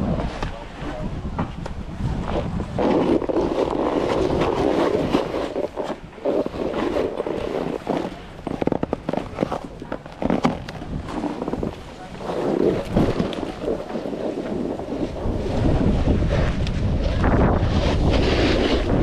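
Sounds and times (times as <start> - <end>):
snowboard scraping over snow: 0.0 - 19.0
wind buffeting microphone: 0.0 - 19.0.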